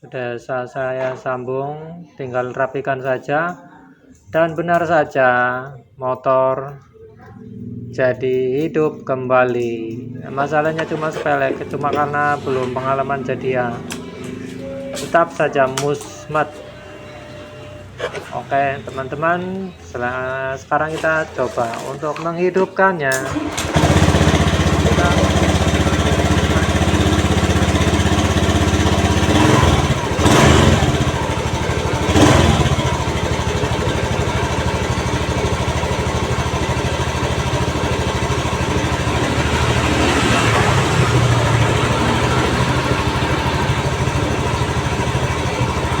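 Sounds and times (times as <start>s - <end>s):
scooter engine idling: 7.4s - 22.6s, 23.2s - 46.0s.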